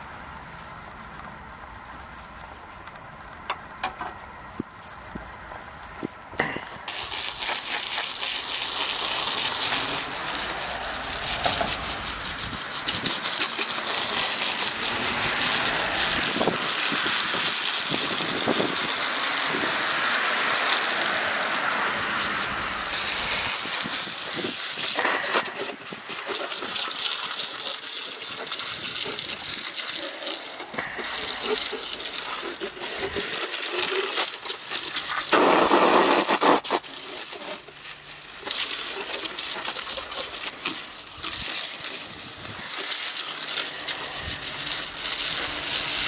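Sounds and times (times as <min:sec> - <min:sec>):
hose water spraying on coil: 0:06.8 - 0:46.0.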